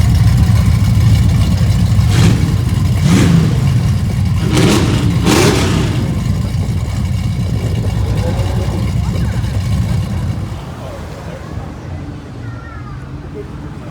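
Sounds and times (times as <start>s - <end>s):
car engine revving: 0.0s - 11.4s
car engines rumbling: 0.0s - 13.9s.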